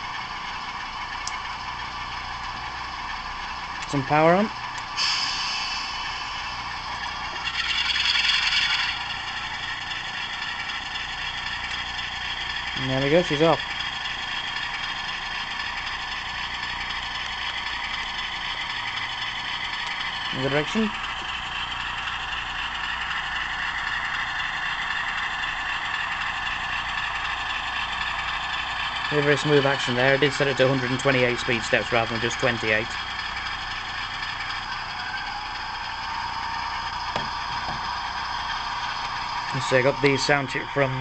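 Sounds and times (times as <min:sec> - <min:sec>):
model train diesel engine sound: 0:00.0 - 0:41.0.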